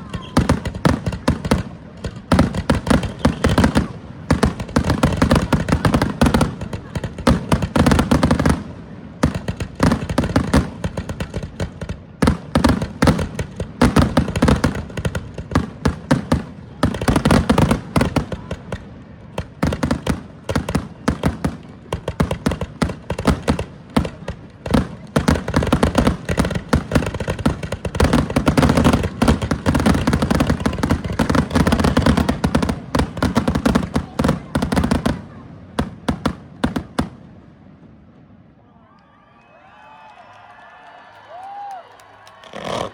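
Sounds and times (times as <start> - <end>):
fireworks bangs and crackling: 0.0 - 38.5, 41.3 - 42.9.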